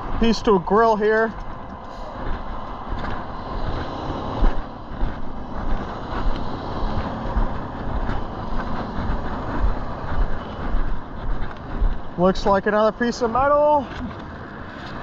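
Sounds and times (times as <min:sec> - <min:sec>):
traffic going by: 0:00.0 - 0:15.0
wind buffeting microphone: 0:00.0 - 0:15.0.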